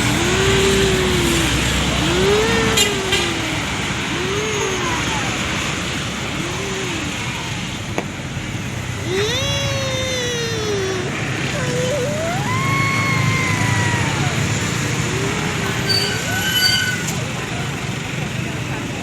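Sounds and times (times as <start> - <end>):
bus engines running in traffic: 0.0 - 19.0.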